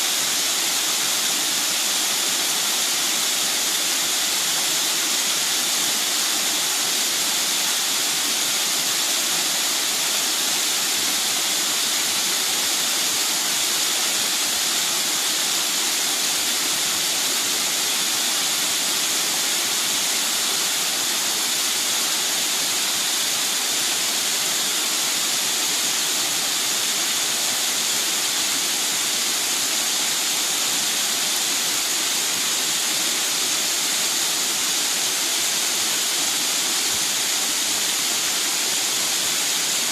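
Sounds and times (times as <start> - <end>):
stream water rushing over cascade: 0.0 - 39.9.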